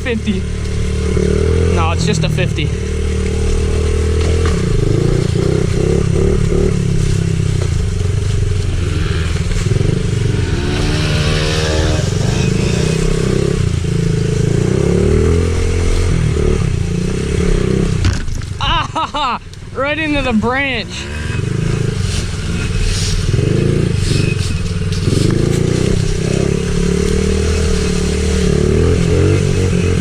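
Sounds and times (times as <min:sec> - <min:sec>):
small motorbike engine revving: 0:00.0 - 0:18.2, 0:20.9 - 0:30.0.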